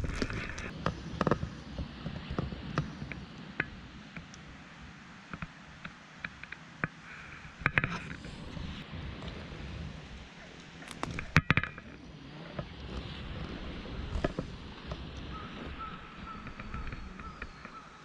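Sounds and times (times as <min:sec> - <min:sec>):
wet leaves rustling: 0:00.0 - 0:18.0.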